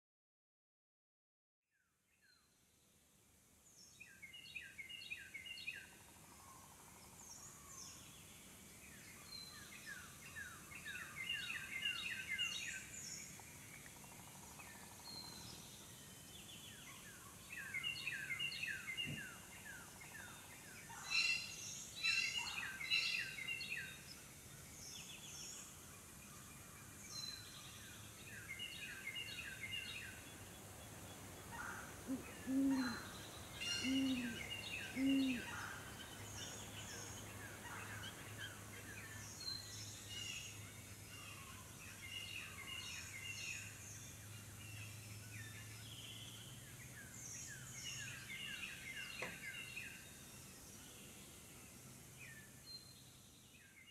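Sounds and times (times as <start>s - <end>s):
songbirds chirping: 1.8s - 53.9s
steady high hiss: 5.8s - 53.4s.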